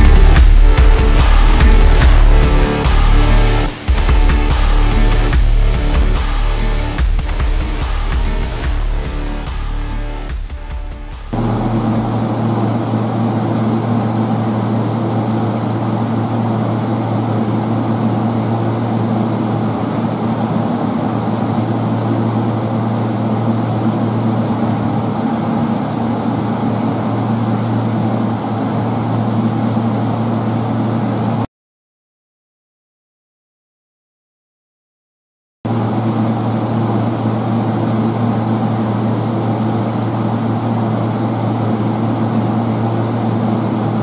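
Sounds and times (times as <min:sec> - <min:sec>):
low mechanical hum: 0:00.0 - 0:31.5, 0:35.7 - 0:44.0.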